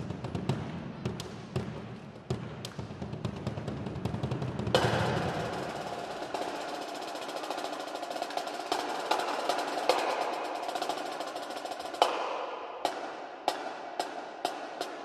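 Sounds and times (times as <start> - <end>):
snare drum rolls: 0.0 - 15.0.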